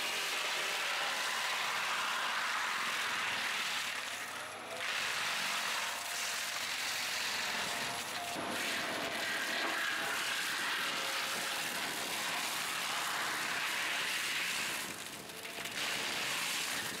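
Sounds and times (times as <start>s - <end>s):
forestry mulcher shredding brush: 0.0s - 17.0s.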